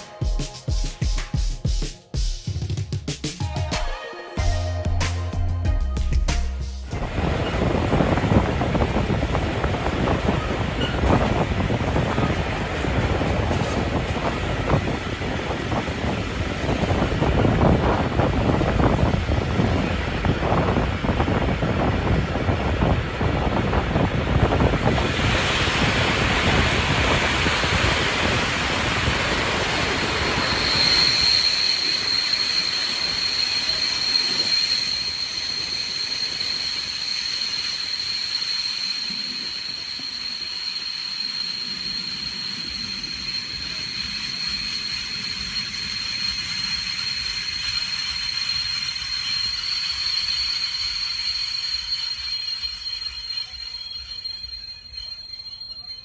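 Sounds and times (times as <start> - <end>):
train rolling noise: 0.0 - 3.8, 4.4 - 56.0
rushing wind: 6.9 - 53.6
high-pitched train wheel squeal: 6.9 - 56.0.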